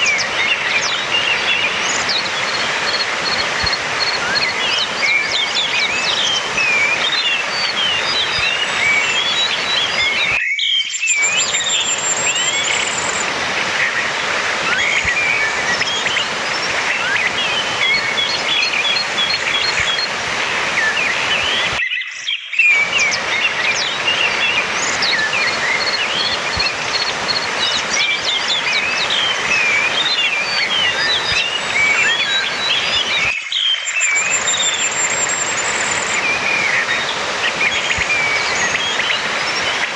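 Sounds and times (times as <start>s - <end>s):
thrush singing chirps and whistles: 0.0s - 39.9s.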